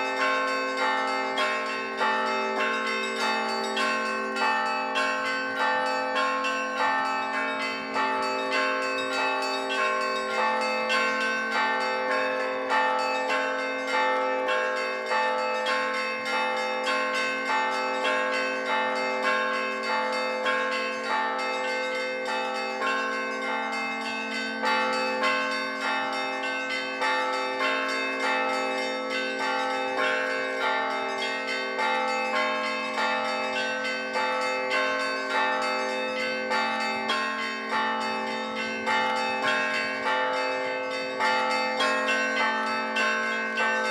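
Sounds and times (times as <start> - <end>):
small church bells pealing: 0.0 - 43.9.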